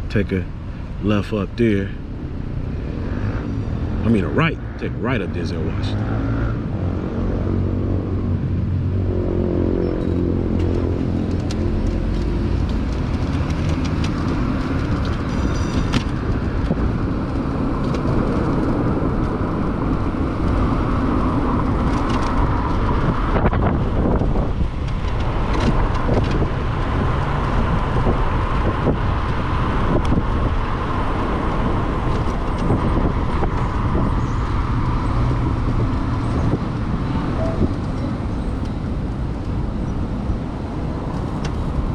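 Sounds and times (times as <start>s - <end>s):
road and traffic noise: 0.0s - 41.9s
wind on microphone: 5.7s - 41.9s.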